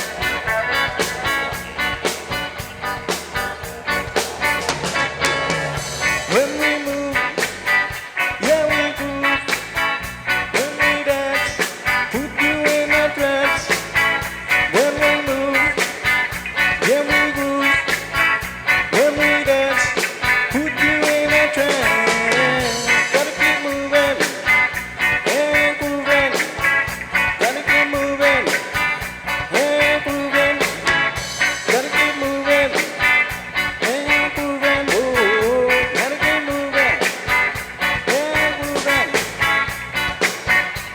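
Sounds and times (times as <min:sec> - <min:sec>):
reggae band playing live: 0:00.0 - 0:40.9.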